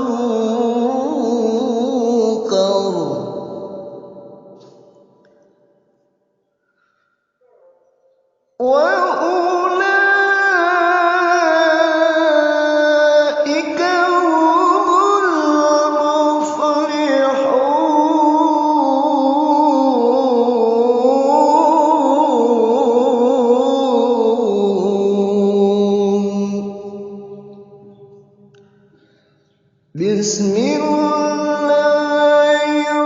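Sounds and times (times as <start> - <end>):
man chanting melodic recitation: 0.0 - 4.6, 8.6 - 28.1, 29.9 - 33.0.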